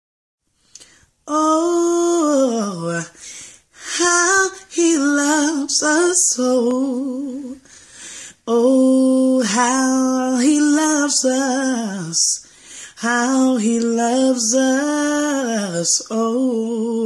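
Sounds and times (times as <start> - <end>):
woman singing unaccompanied: 1.2 - 3.2, 3.8 - 7.7, 8.4 - 17.0.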